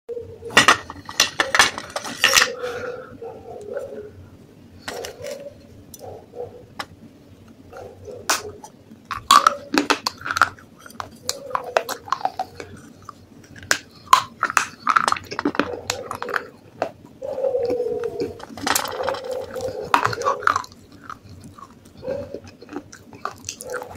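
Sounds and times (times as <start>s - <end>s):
crunching and chewing clay: 0.7s - 3.8s, 4.8s - 23.9s.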